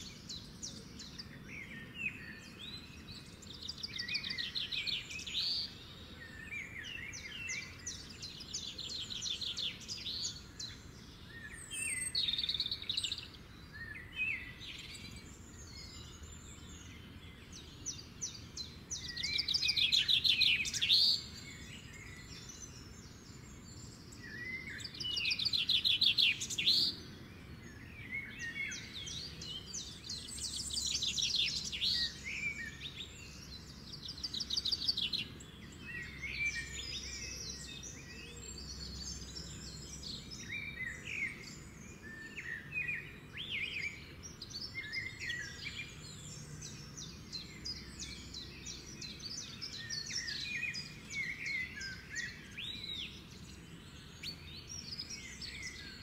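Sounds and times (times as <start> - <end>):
faint low background noise: 0.0 - 56.0
songbirds chirping: 0.0 - 56.0.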